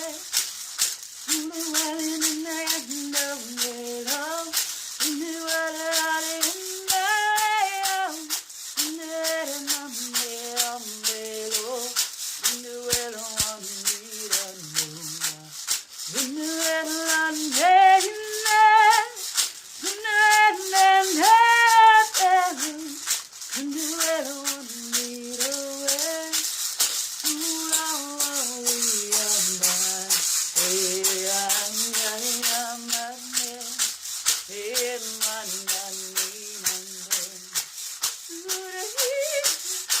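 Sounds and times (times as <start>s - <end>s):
woman singing wordless chant: 0.0s - 0.4s, 1.2s - 40.0s
hand rattle shaking: 0.0s - 40.0s.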